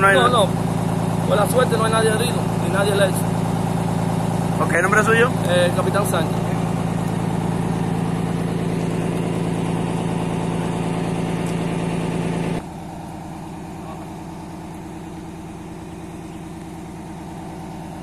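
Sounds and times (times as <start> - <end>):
fire truck engine idling: 0.0 - 18.0.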